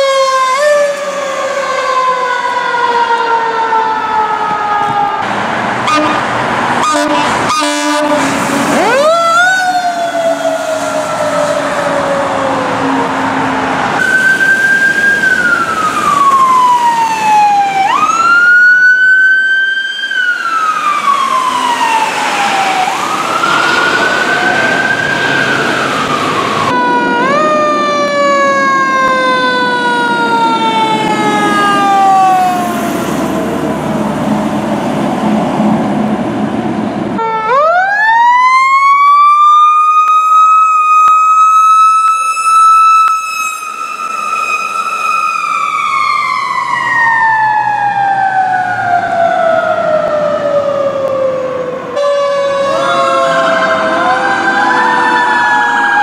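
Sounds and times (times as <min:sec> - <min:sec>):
fire truck sirens wailing: 0:00.0 - 0:56.0
traffic noise: 0:00.0 - 0:56.0.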